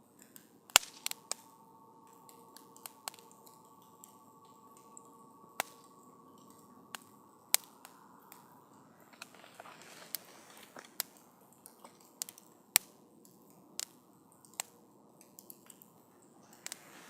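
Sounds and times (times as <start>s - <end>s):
faint steady hiss: 0.0s - 17.0s
campfire crackling and popping: 0.1s - 17.0s.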